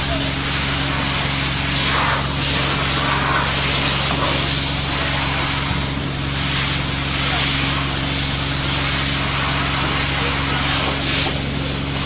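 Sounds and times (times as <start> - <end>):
constant low hum: 0.0 - 12.0
machine running: 0.0 - 12.0
rushing hiss: 0.0 - 12.0.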